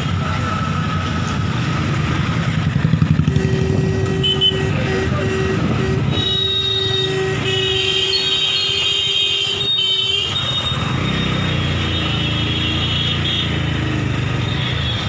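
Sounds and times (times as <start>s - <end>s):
motorbike and rickshaw engines rumbling: 0.0s - 15.0s.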